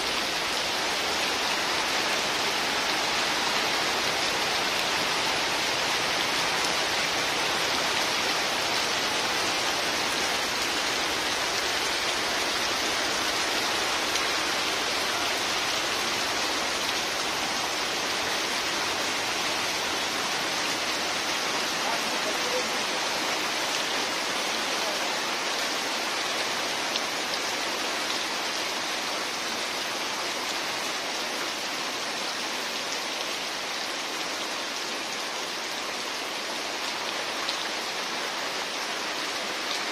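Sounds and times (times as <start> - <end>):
heavy rain on water and plastic: 0.0 - 39.9.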